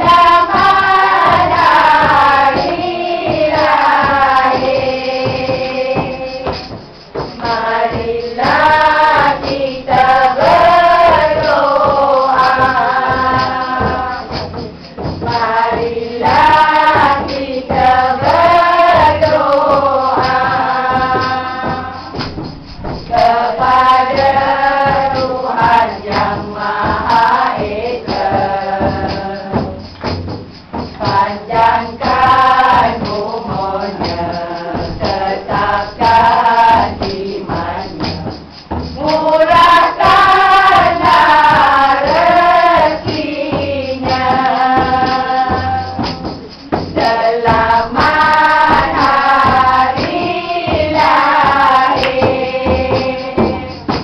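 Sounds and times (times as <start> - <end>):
frame drums: 0.0 - 54.0
jingling tambourine: 0.0 - 54.0
women singing in chorus: 0.0 - 54.0.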